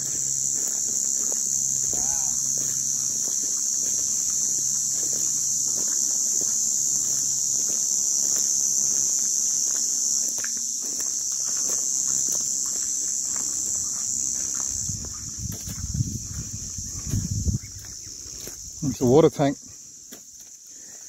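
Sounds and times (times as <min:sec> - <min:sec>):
cicadas droning: 0:00.0 - 0:21.0
footsteps crunching on sand: 0:00.0 - 0:21.0.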